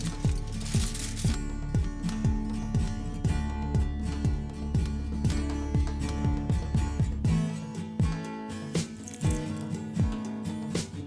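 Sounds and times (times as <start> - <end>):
guitar over steady beat: 0.0 - 11.0.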